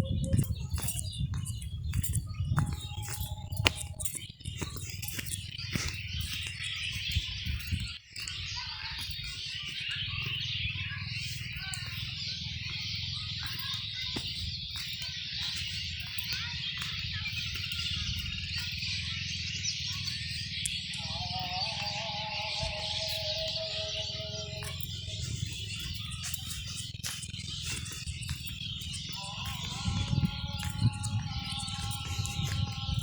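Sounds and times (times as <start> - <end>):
chorus of small birds chirping: 0.0 - 33.0.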